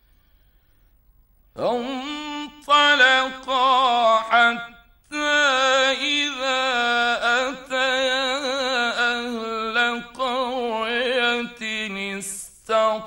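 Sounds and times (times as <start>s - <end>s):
man chanting melodically: 1.6s - 13.0s.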